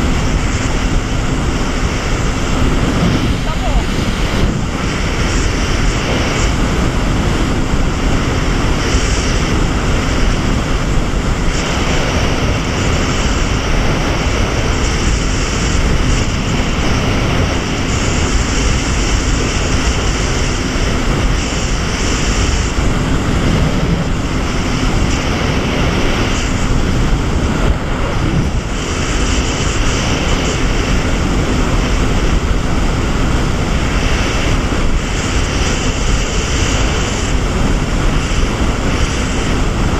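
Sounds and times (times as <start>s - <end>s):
jet ski engine drone: 0.0s - 39.9s
water rushing: 0.0s - 39.9s.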